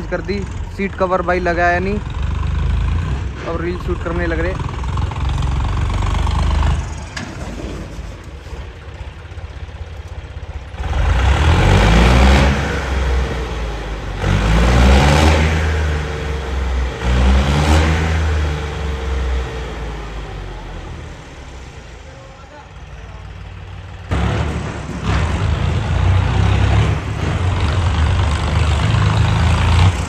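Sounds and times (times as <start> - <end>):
tractor diesel engine revving: 0.0 - 30.0.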